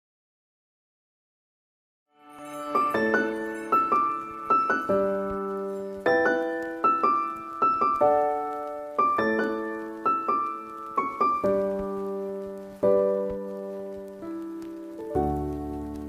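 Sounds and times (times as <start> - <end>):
solo piano playing: 2.2 - 16.0.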